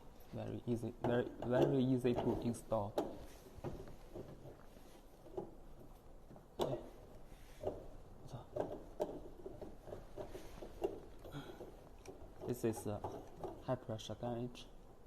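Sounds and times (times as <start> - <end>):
short knocks and clicks: 0.8 - 13.7.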